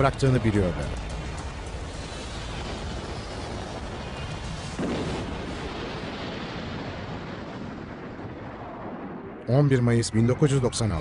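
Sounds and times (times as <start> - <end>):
steady rushing noise: 0.0 - 11.0
heavy explosive impact: 0.1 - 9.4.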